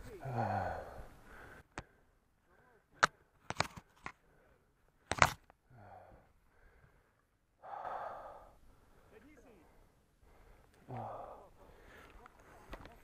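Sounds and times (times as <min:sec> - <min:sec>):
soft breaths: 0:00.0 - 0:03.4, 0:04.1 - 0:05.0, 0:05.6 - 0:13.0.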